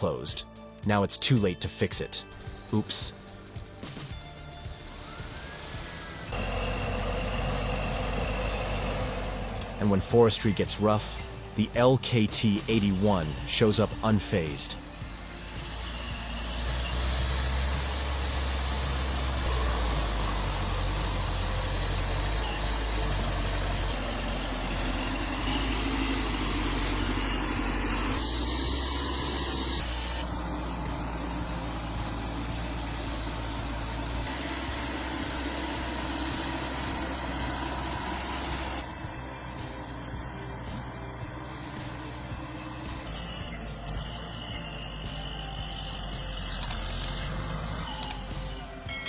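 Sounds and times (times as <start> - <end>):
diesel engine running: 1.4 - 49.0.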